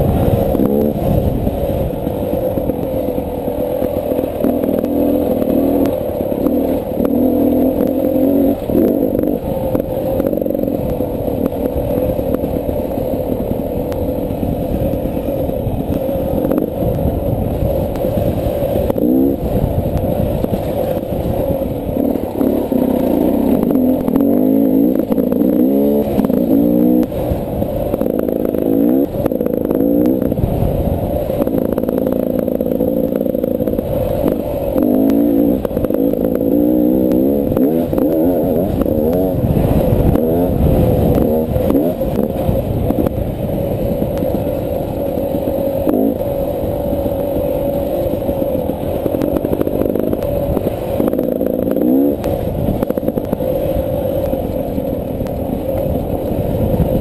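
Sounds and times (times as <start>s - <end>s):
clatter and scraping of bike: 0.0s - 57.0s
dirt bike engine revving: 0.0s - 57.0s.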